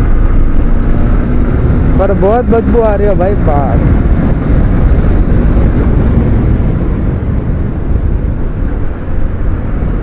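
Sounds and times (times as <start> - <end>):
motorcycle engine and road rumble: 0.0 - 10.0
wind buffeting microphone: 0.0 - 10.0.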